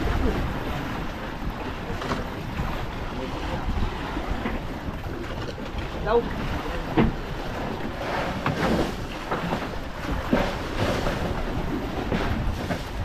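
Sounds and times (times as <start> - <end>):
water splashing against hull: 0.0 - 13.0
wind buffeting microphone: 0.0 - 13.0.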